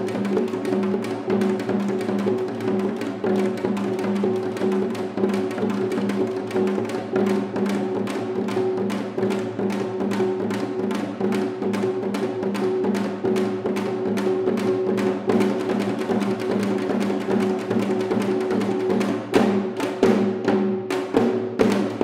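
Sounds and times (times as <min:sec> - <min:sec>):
fast drum strokes: 0:00.0 - 0:22.0.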